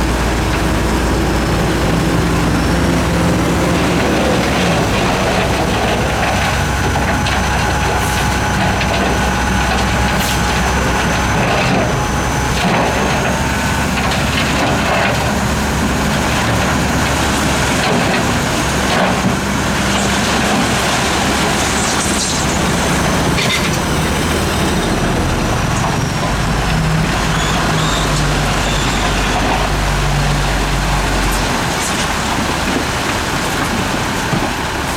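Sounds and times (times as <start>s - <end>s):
diesel machinery engine drone: 0.0s - 34.9s.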